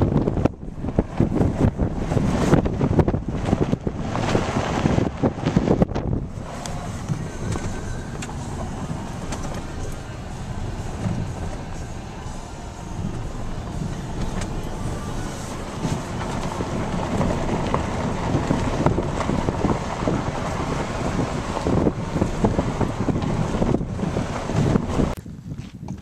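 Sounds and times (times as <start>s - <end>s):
vehicle engine and tyres rumbling: 0.0s - 26.0s
wind noise on microphone: 0.0s - 26.0s.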